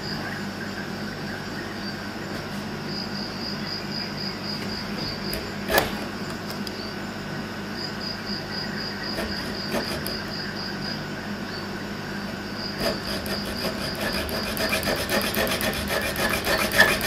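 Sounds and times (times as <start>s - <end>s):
cricket chirping: 0.0s - 17.0s
faint steady hum: 0.0s - 17.0s.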